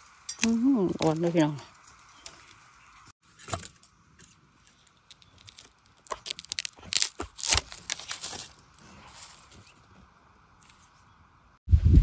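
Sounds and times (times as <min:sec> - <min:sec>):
dry twigs crackling and snapping: 0:00.3 - 0:11.0.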